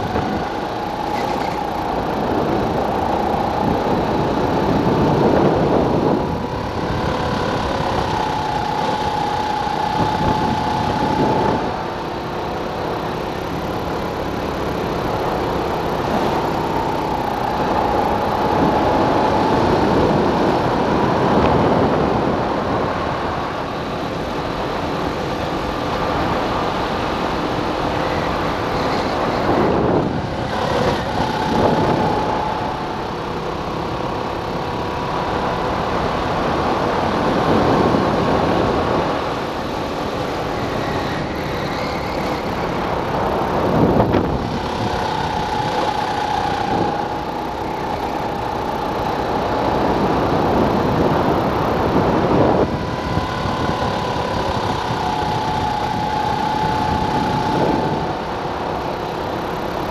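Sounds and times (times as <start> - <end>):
go-kart engine: 0.0 - 59.9
wind and road noise: 0.0 - 59.9.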